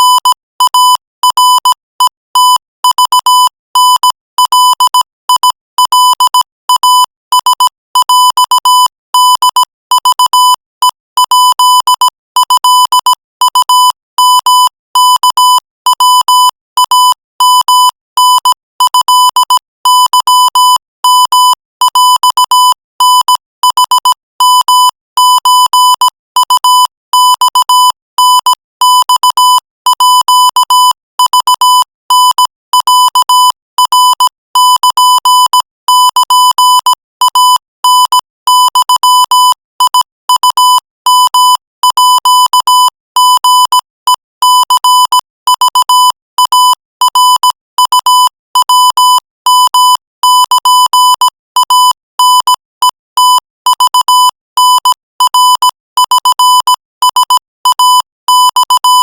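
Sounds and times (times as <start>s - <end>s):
morse code beeps: 0.0s - 59.0s.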